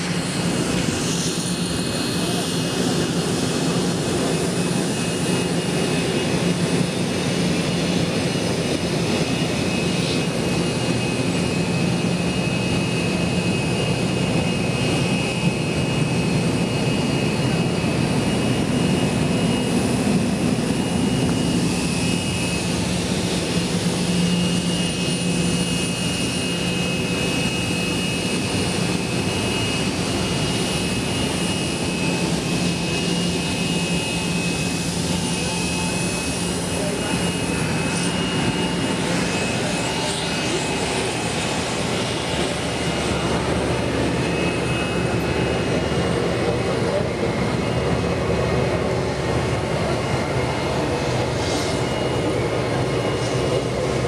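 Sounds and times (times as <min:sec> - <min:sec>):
jet turbine whine: 0:00.0 - 0:54.0.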